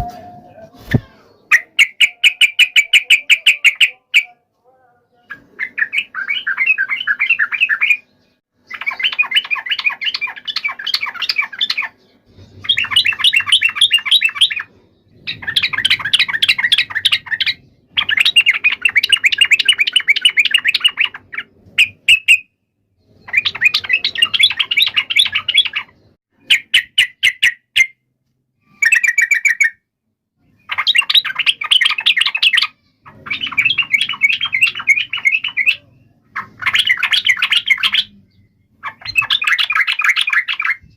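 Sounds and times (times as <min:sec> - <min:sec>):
bulbul chattering song: 0:00.0 - 0:04.5, 0:05.2 - 0:28.0, 0:30.4 - 0:40.9.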